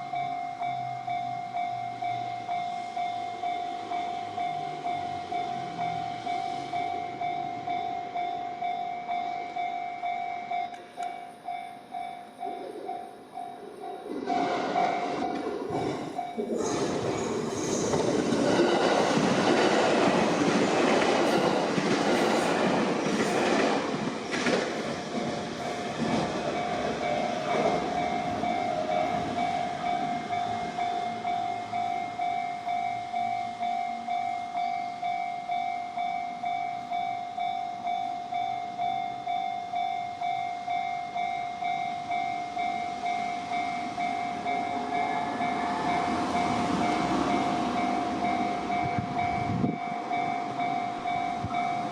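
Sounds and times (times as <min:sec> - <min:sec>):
level crossing warning bell: 0:00.0 - 0:51.9
train passing over crossing: 0:00.0 - 0:51.9.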